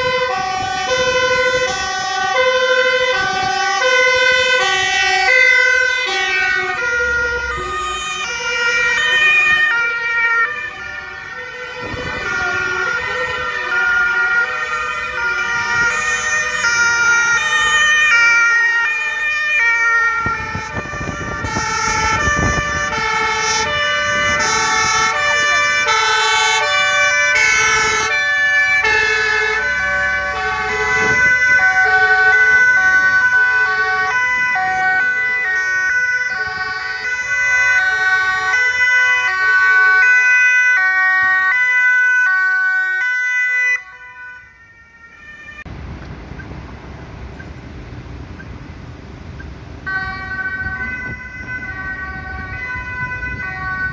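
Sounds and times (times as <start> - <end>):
emergency sirens wailing: 0.0 - 53.9
passing vehicle engine and road noise: 0.0 - 53.9.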